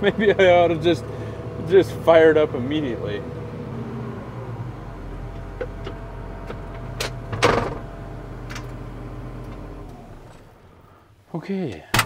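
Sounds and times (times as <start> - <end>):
diesel engine running: 0.0 - 11.2.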